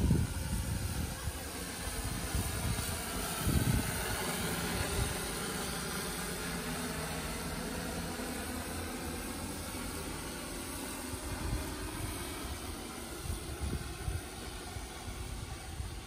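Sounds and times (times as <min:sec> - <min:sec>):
drone propellers droning: 0:00.0 - 0:16.0.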